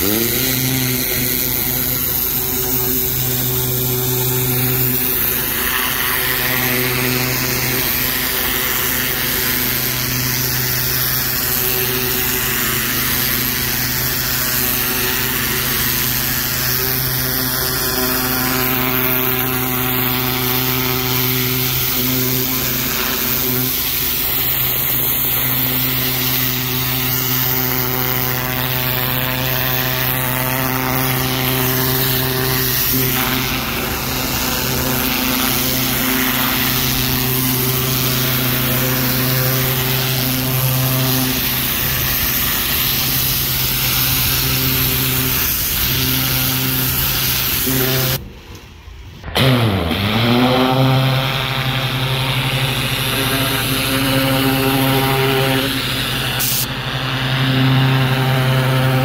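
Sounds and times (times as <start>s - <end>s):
water jet hissing against brick: 0.0s - 48.2s, 54.4s - 56.7s
pressure washer engine running: 0.0s - 59.0s.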